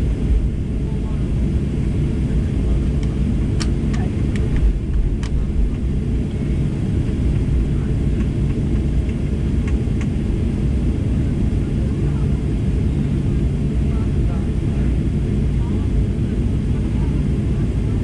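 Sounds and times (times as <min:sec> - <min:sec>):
aircraft cabin rumble: 0:00.0 - 0:18.0.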